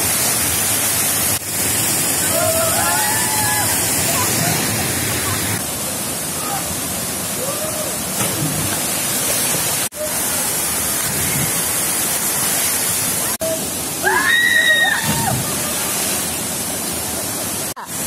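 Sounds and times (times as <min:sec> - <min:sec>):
waterfall rushing into pool: 0:00.0 - 0:18.0.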